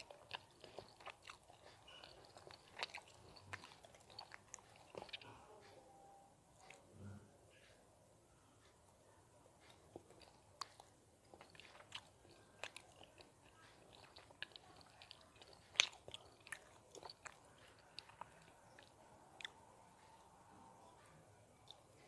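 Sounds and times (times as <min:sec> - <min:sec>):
mouth chewing clicks and smacks: 0:00.0 - 0:05.8, 0:06.6 - 0:06.9, 0:09.6 - 0:22.0.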